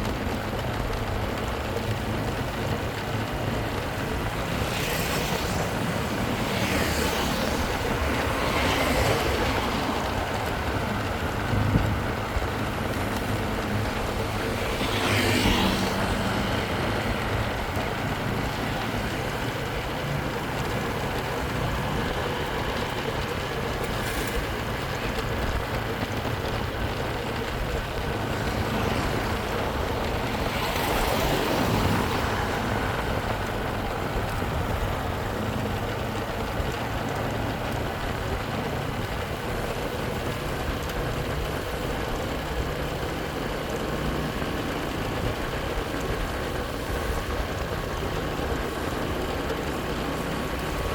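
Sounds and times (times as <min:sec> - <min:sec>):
motorcycle running: 0:00.0 - 0:50.9
road and wind noise: 0:00.0 - 0:50.9.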